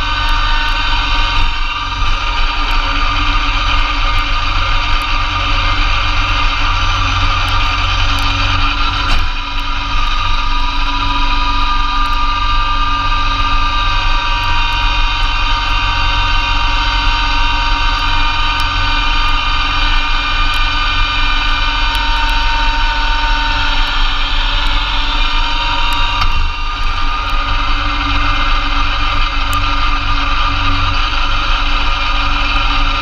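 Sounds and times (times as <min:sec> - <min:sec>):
snowblower whine: 0:00.0 - 0:33.0
tractor diesel engine running: 0:00.0 - 0:33.0.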